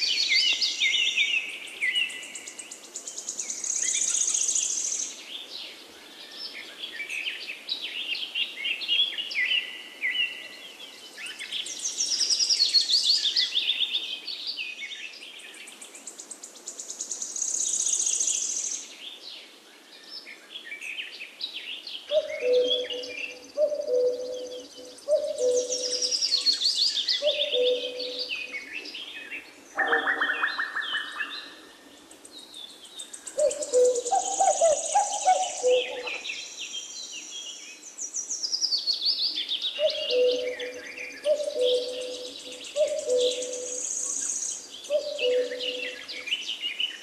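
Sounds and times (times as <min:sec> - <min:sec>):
small birds singing: 0:00.0 - 0:47.0.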